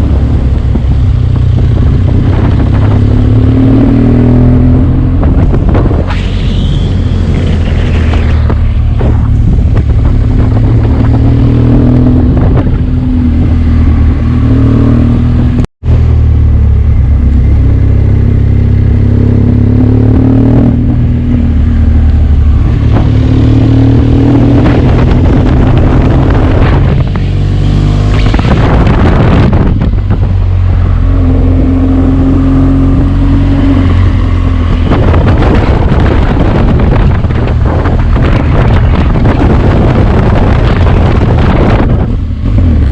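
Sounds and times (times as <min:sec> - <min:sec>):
wind rush over microphone: 0:00.0 - 0:42.9
motorcycle engine running: 0:04.4 - 0:42.9.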